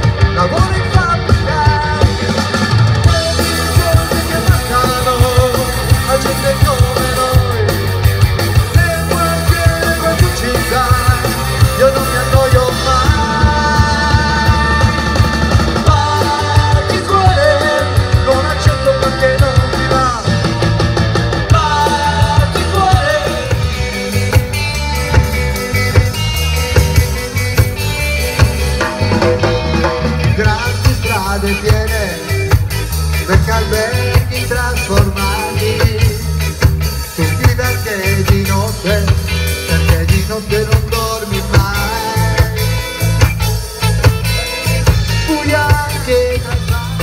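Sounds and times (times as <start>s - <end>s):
man singing: 0.0s - 25.2s, 28.8s - 47.0s
live rock band playing: 0.0s - 47.0s.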